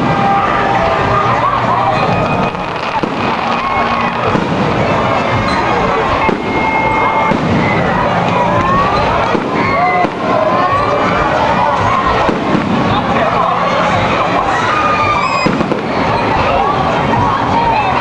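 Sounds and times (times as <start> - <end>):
fireworks bangs and crackling: 0.0 - 1.2, 2.0 - 14.1, 15.0 - 16.6.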